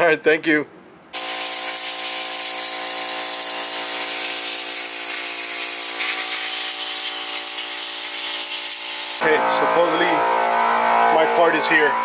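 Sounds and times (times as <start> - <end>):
machine hiss and hum: 1.2 - 12.0.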